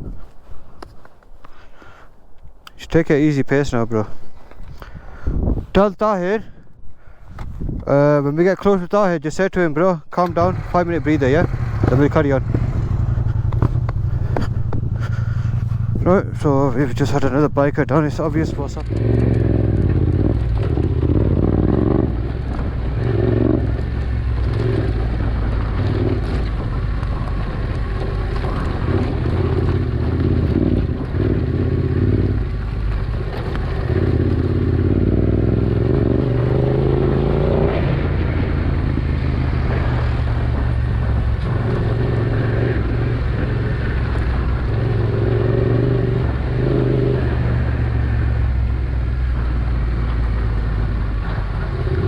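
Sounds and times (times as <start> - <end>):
motorcycle engine revving: 10.2 - 52.0.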